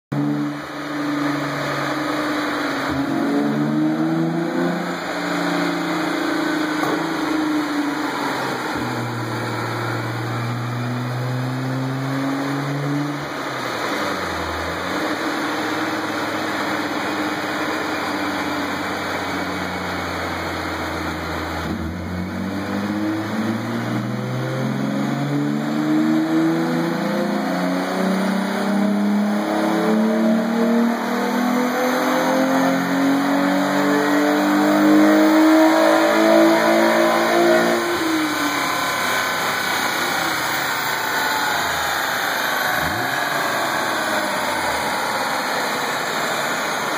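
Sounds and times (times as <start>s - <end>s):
car engine revving on dynamometer: 0.1s - 46.9s.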